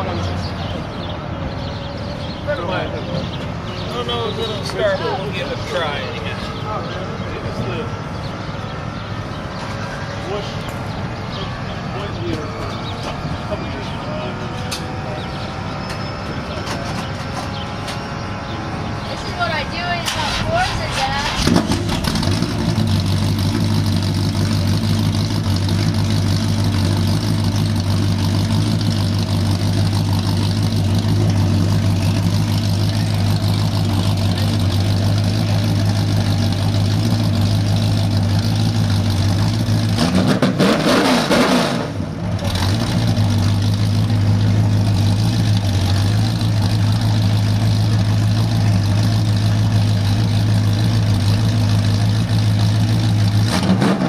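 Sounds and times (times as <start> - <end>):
race car engine idling: 0.0 - 40.5, 41.8 - 53.7.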